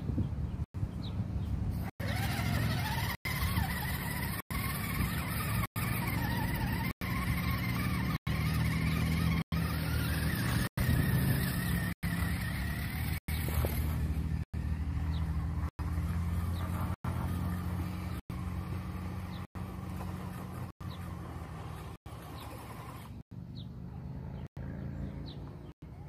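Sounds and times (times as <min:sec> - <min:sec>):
electric motor and gearbox whine: 0:01.8 - 0:23.3.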